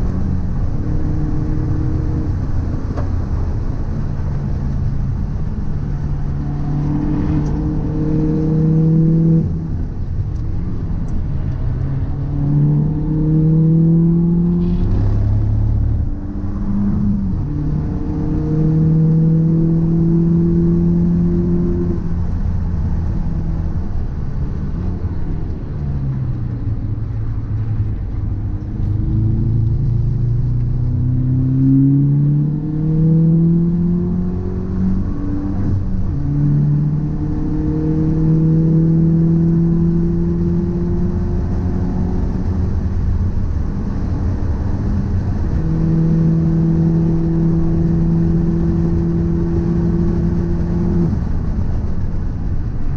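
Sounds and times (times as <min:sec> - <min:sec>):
car droning while driving: 0:00.0 - 0:52.9.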